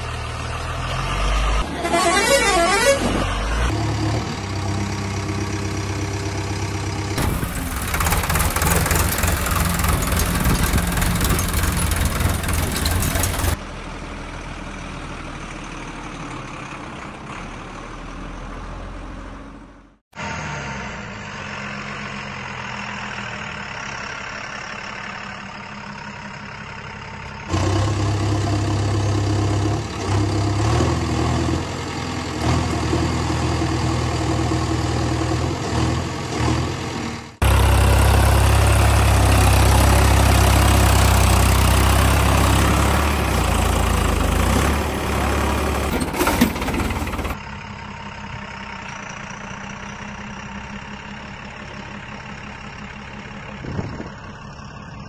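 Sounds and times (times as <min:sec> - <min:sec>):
diesel engines idling and running: 0:00.0 - 0:55.0.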